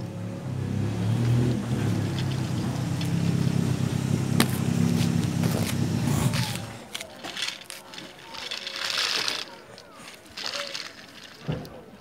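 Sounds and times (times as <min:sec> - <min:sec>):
toy train motor whirring: 0:01.8 - 0:11.6.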